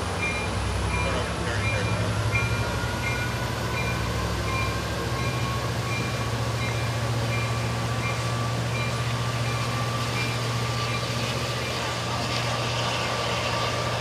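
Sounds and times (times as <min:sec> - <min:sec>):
diesel locomotive engine drone: 0:00.0 - 0:14.0.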